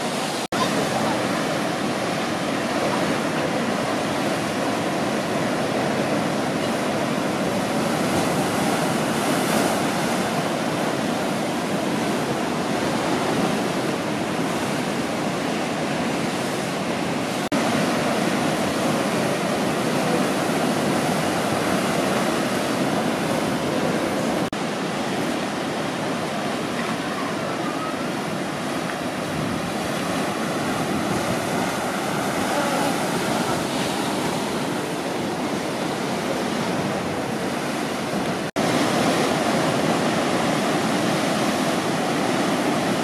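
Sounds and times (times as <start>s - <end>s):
ocean surf breaking: 0.0s - 43.0s.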